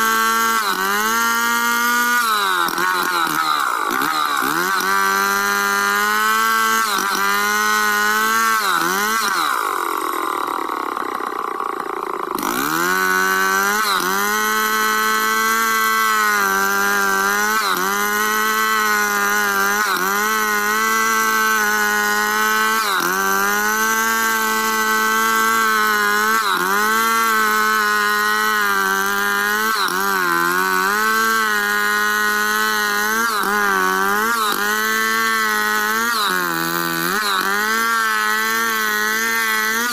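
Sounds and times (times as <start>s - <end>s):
chainsaw ripping through log: 0.0s - 39.9s.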